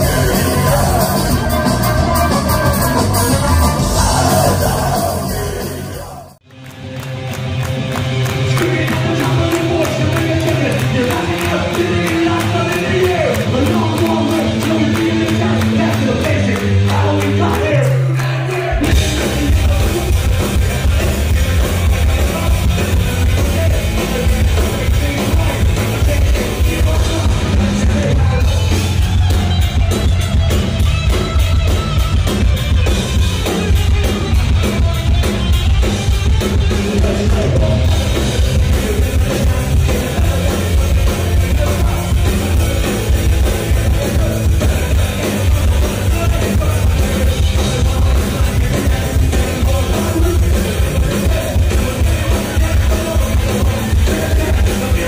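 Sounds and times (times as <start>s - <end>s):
fast drums: 0.0s - 6.4s, 8.1s - 55.0s
person singing: 0.0s - 6.4s, 8.4s - 29.4s, 36.4s - 55.0s
punk rock band playing live: 0.0s - 55.0s.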